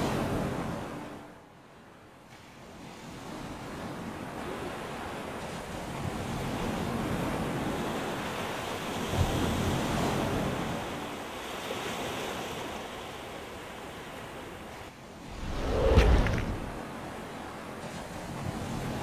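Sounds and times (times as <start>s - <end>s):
surf breaking on a beach: 2.4s - 19.0s.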